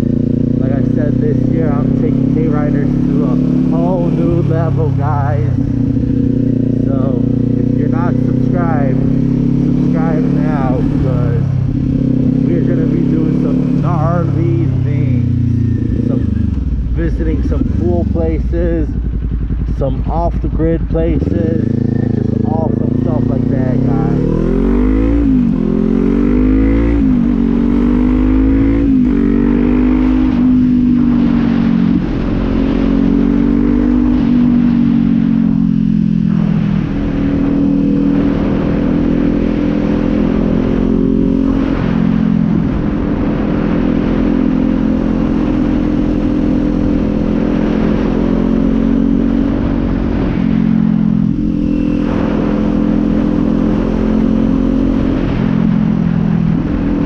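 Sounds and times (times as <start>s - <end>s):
motorcycle engine upshifting: 0.0s - 57.0s.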